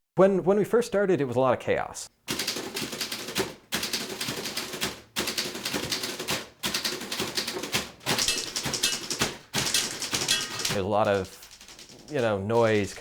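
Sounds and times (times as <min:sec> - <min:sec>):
typewriters clattering: 0:02.3 - 0:13.0.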